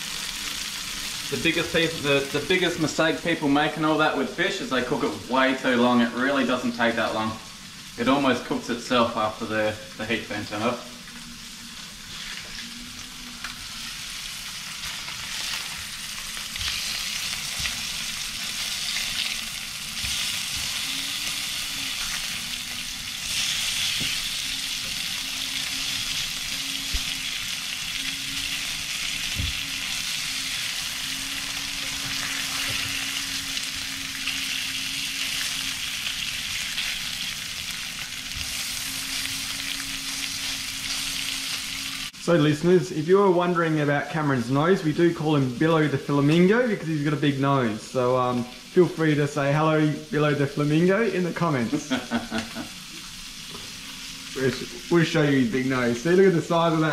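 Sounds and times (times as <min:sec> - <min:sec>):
fish sizzling in oil: 0:00.0 - 0:42.2, 0:47.3 - 0:56.9.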